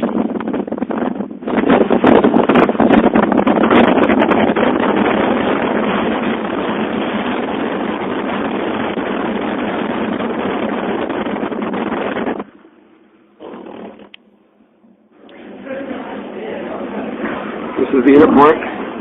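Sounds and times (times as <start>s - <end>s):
wind and road noise: 0.0s - 19.0s
wind buffeting microphone: 0.0s - 19.0s.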